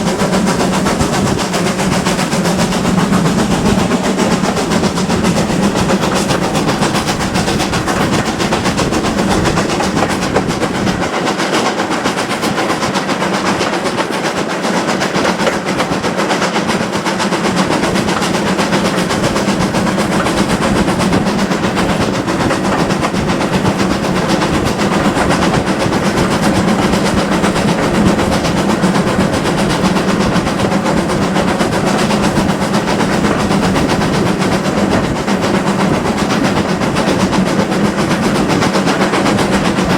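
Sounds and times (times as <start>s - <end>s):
steam train running: 0.0s - 39.9s
wheels clattering on track: 0.0s - 39.9s.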